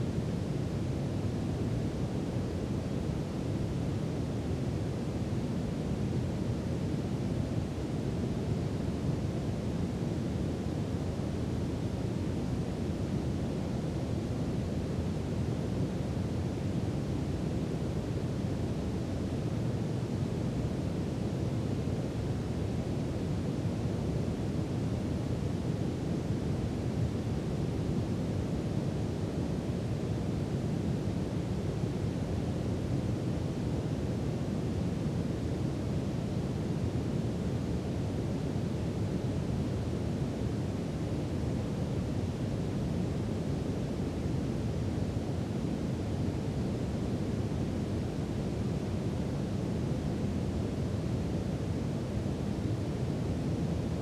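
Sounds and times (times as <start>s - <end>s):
steady brown noise: 0.0s - 54.0s.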